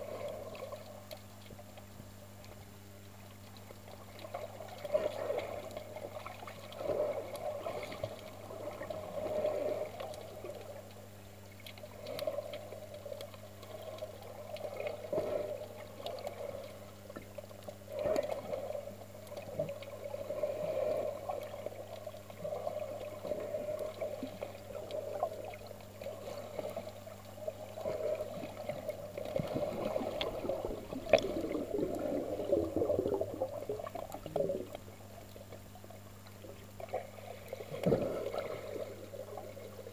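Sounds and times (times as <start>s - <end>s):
muffled water sloshing underwater: 0.0s - 39.9s
steady low hum: 0.0s - 39.9s.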